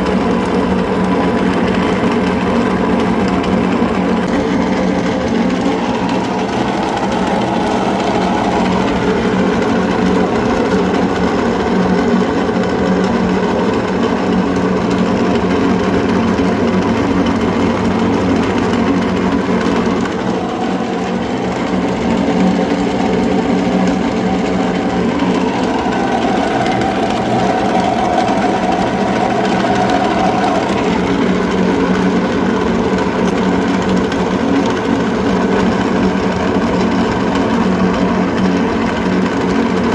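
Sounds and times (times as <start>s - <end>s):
electric meat grinder running: 0.0s - 39.9s.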